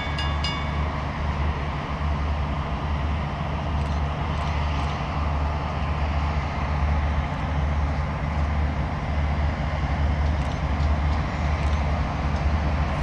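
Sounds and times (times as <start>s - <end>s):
diesel locomotives rumbling: 0.0s - 13.0s.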